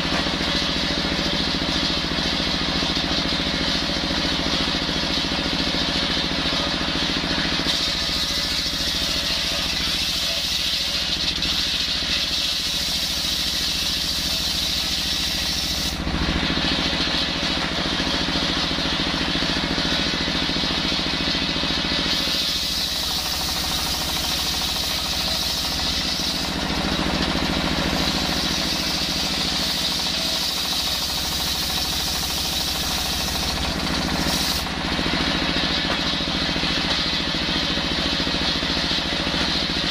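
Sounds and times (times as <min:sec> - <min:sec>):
circular saw cutting wood: 0:00.0 - 0:37.8
diesel engine running: 0:00.0 - 0:39.9.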